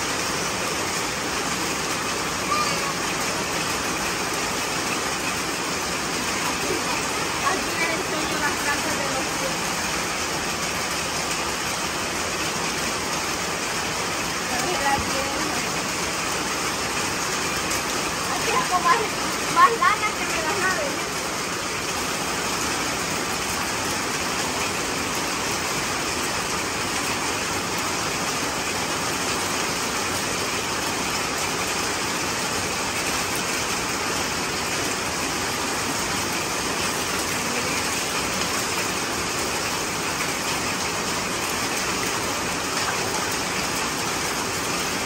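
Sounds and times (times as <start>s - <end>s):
heavy rain on concrete: 0.0s - 45.0s.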